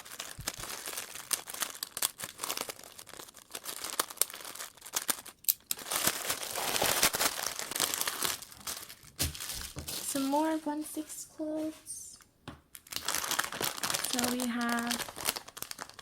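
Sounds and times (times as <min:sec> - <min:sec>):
packaging crinkling: 0:00.0 - 0:10.7, 0:12.7 - 0:16.0.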